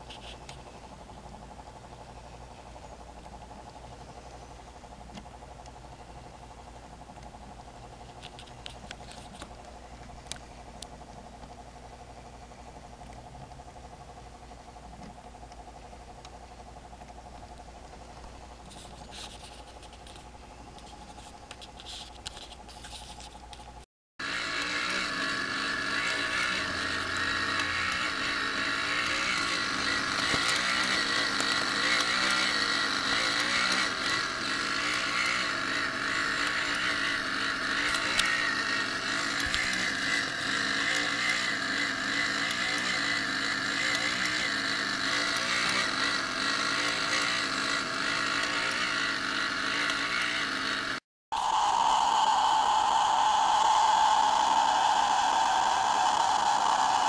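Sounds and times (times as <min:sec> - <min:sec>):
small motor whine: 0:00.0 - 0:57.0
wavering mechanical buzz: 0:00.0 - 0:57.0.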